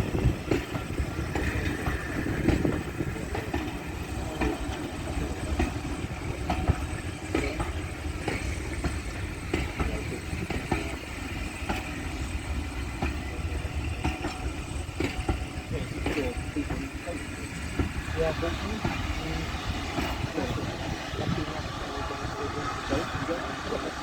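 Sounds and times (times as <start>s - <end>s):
train rumbling past: 0.0s - 24.0s
wheels clicking on rails: 0.0s - 24.0s.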